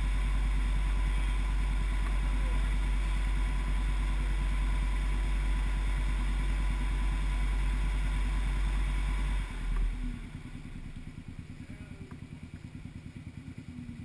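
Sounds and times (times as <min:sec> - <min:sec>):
vehicle engine pulsing rumble: 0:00.0 - 0:14.0.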